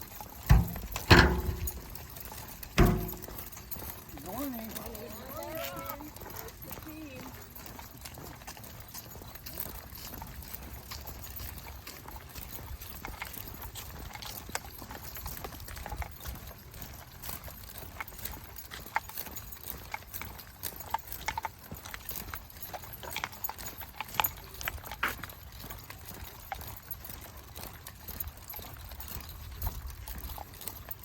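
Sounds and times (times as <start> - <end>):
footsteps of person and dogs: 0.0 - 31.0.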